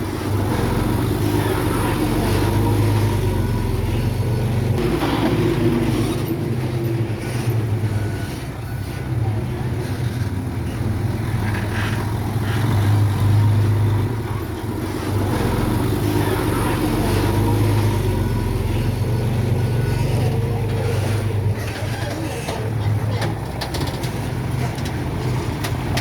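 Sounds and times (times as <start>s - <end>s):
heavy diesel engine humming: 0.0s - 26.0s.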